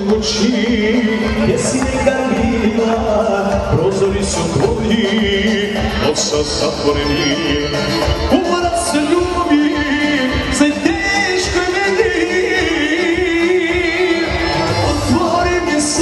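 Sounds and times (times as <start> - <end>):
live folk-pop music with singer: 0.0 - 16.0.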